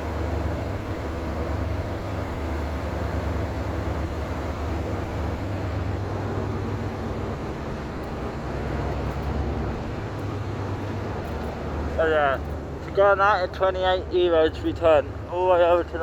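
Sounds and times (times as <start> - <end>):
ferry engines rumbling: 0.0 - 16.0.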